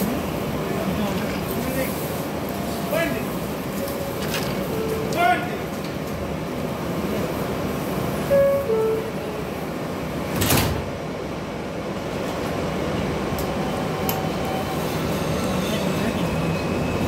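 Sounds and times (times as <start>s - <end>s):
train doors sliding shut: 0.0s - 17.0s
train low rumble: 0.0s - 17.0s.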